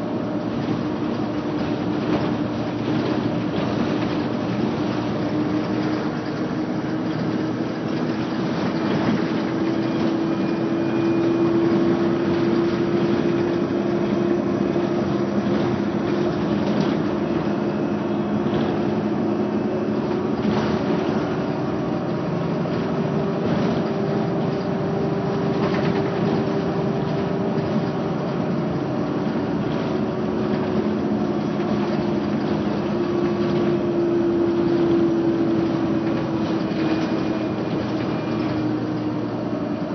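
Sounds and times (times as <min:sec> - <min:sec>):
bus engine drone: 0:00.0 - 0:39.9
road and rattle noise: 0:00.0 - 0:39.9.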